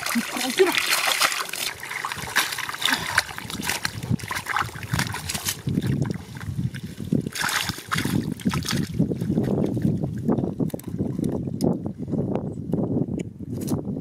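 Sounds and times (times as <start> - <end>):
hands sloshing through wet mud: 0.0 - 11.3
mud splashes: 0.0 - 11.3.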